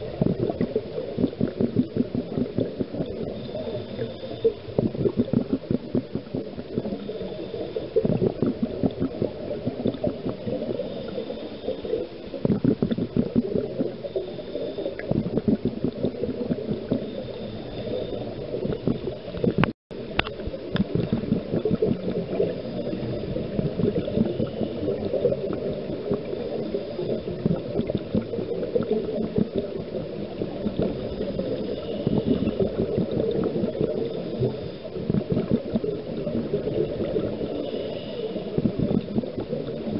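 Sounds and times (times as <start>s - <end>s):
underwater bubbles gurgling: 0.0s - 39.9s
water moving: 0.0s - 39.9s.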